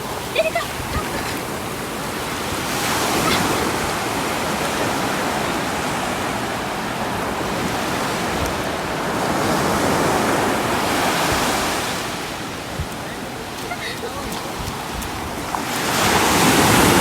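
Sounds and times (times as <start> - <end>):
waves breaking on a beach: 0.0 - 17.0.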